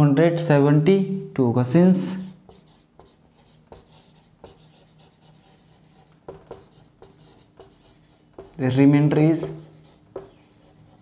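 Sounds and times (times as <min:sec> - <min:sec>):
marker writing on whiteboard: 0:02.0 - 0:11.0.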